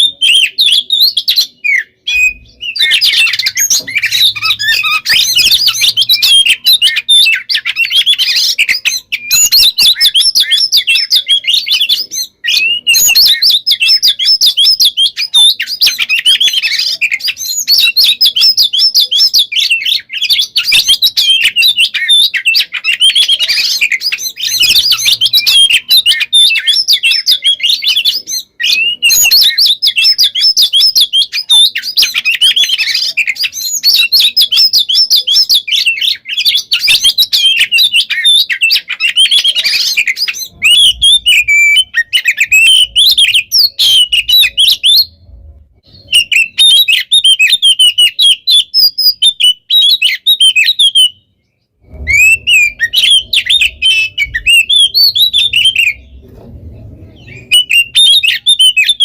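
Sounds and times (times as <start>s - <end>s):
songbird whistles and trills: 0.0s - 59.0s.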